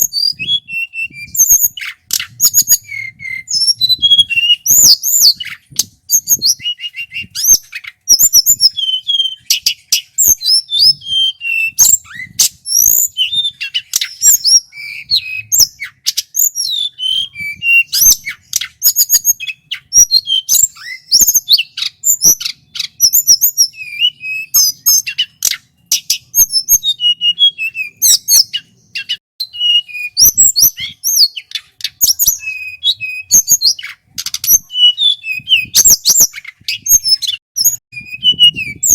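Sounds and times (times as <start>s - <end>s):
flycatcher singing: 0.0s - 38.9s.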